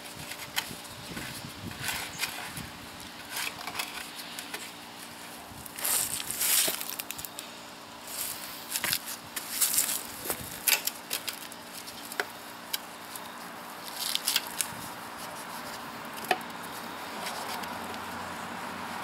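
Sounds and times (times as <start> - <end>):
rustling scrape: 0.0 - 7.4, 8.0 - 12.2, 13.0 - 18.2.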